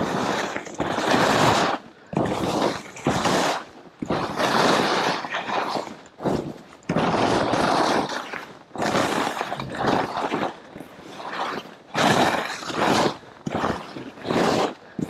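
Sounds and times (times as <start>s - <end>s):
skis swishing through snow: 0.0s - 15.0s.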